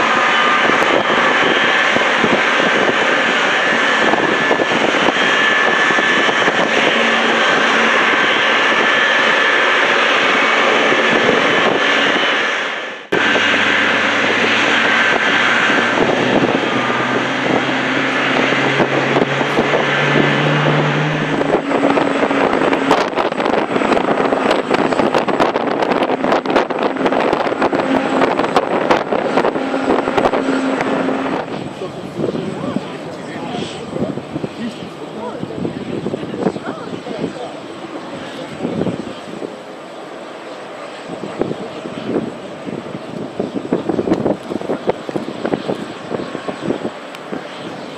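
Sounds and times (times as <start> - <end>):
jet engines whining: 0.0 - 47.9.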